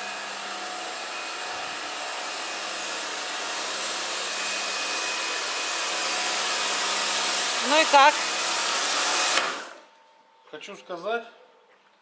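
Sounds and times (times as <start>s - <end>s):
pressure washer motor hum: 0.0s - 9.9s.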